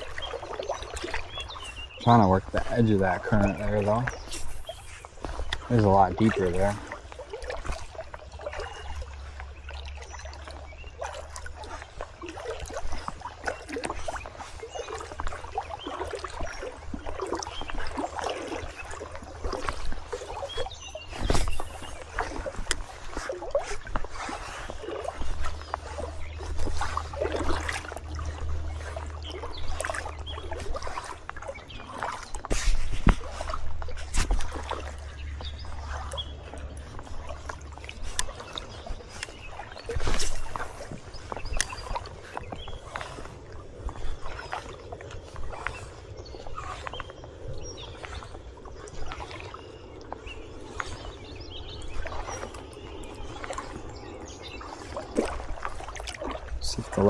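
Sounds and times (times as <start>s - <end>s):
water splashing around wading legs: 0.0s - 57.0s.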